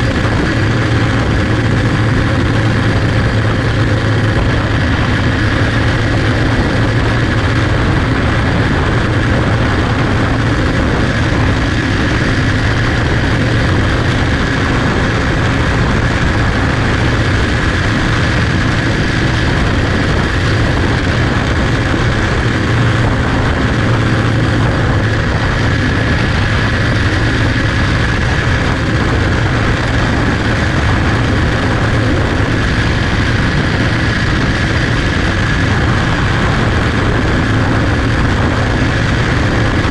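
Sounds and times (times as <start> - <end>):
race car engine running flat out: 0.0 - 39.9.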